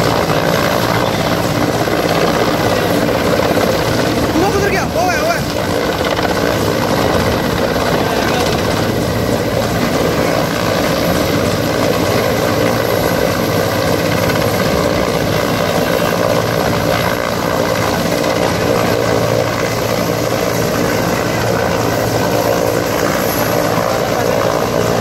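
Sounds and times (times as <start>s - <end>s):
helicopter hovering overhead: 0.0s - 25.0s.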